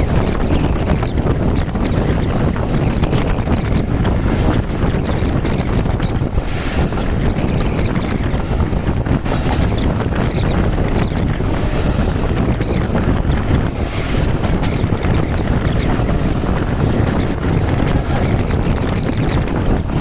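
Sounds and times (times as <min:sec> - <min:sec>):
train rumbling on track: 0:00.0 - 0:20.0
wind buffeting microphone: 0:00.0 - 0:20.0.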